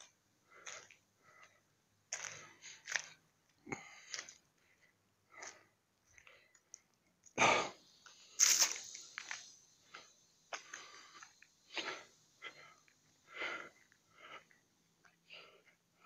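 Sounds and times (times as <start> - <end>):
person breathing hard: 0.4 - 3.0, 3.6 - 6.6, 7.4 - 16.0.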